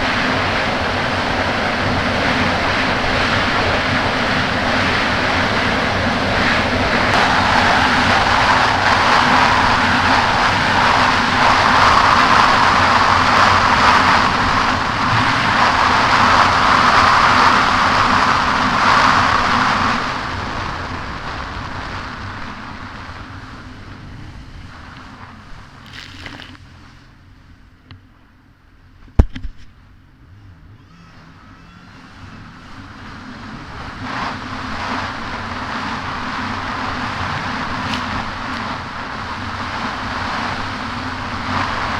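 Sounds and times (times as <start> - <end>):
rushing water and wind: 0.0 - 27.0, 32.1 - 41.9
jet ski engine: 0.0 - 41.9.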